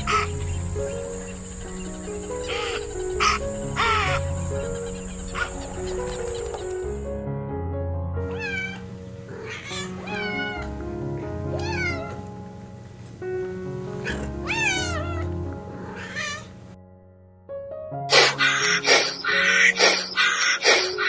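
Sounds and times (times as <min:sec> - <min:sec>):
animal calling: 0:00.0 - 0:07.1, 0:08.2 - 0:16.8, 0:18.1 - 0:21.0
background music: 0:00.0 - 0:21.0.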